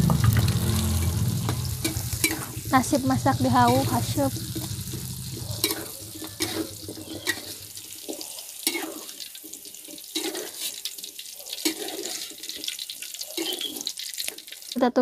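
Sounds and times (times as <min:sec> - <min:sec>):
beans sizzling in hot oil: 0:00.0 - 0:15.0
oil crackling and spattering: 0:00.0 - 0:15.0.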